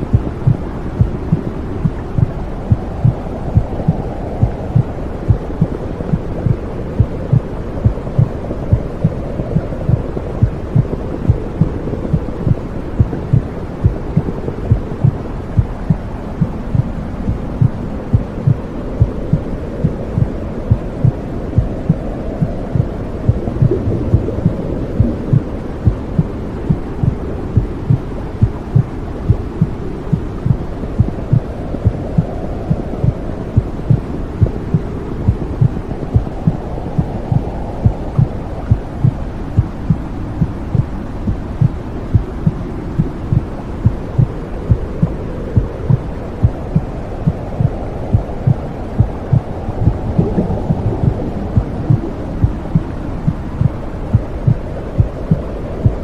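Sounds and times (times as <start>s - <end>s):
heartbeat thumps: 0.0s - 56.0s
low whooshing rush: 0.0s - 56.0s.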